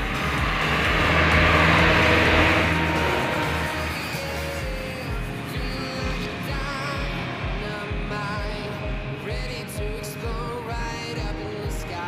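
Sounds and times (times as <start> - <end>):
vehicle passing: 0.0 - 11.6
background music: 0.0 - 12.0.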